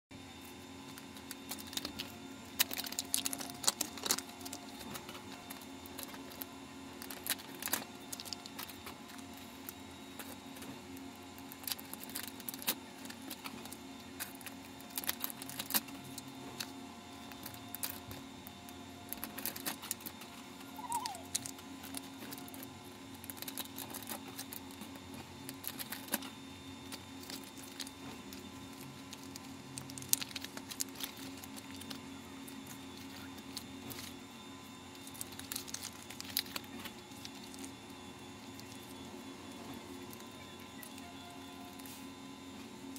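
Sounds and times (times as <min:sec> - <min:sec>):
steady low hum: 0:00.1 - 0:42.9
plastic wrappers crinkling: 0:00.4 - 0:18.3, 0:19.1 - 0:42.1.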